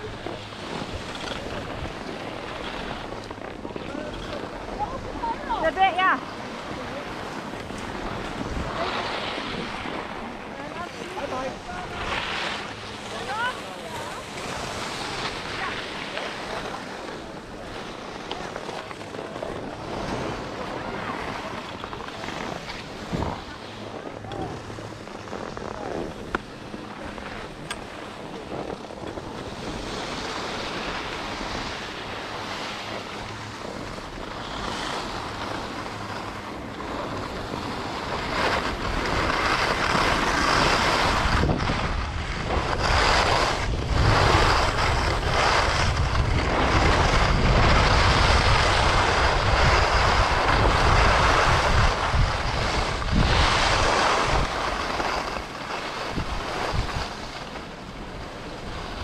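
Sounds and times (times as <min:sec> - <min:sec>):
skis scraping over snow: 0:00.0 - 0:59.0
wind buffeting microphone: 0:00.0 - 0:59.0.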